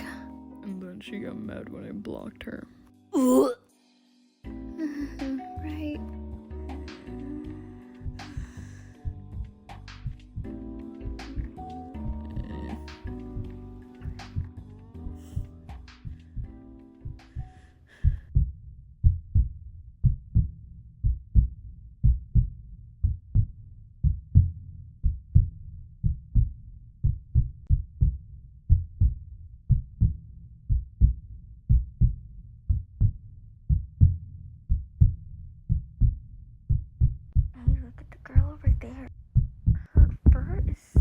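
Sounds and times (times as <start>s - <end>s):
heartbeat double thumps: 5.9s - 41.0s.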